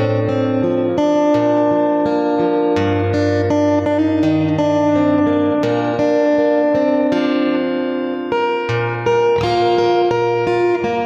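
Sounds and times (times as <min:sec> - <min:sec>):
fingerstyle acoustic guitar: 0:00.0 - 0:11.0.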